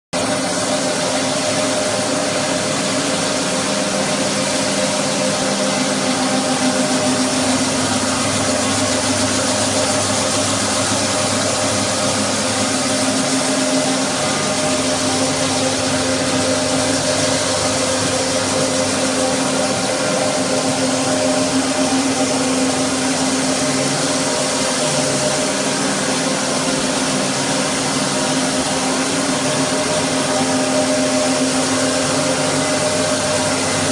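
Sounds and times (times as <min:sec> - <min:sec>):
floor sander motor hum: 0:00.2 - 0:33.9.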